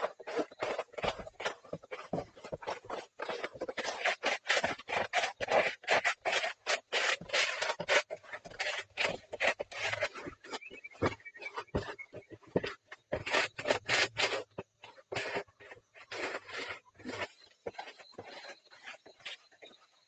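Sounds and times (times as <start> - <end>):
hands scraping wet concrete: 0.0 - 20.0.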